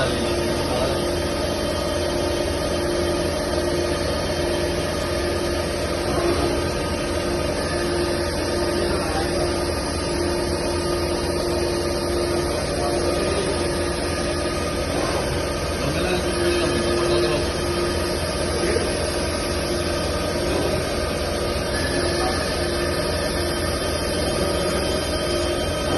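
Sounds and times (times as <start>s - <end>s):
cnc machine whining: 0.0s - 25.9s.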